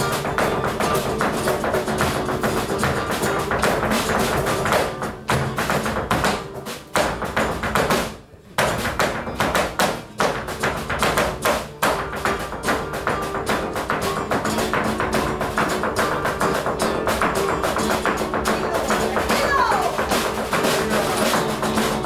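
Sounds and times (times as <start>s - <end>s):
flamenco guitar music: 0.0s - 22.0s
heel stamps on wooden stage: 0.0s - 22.0s.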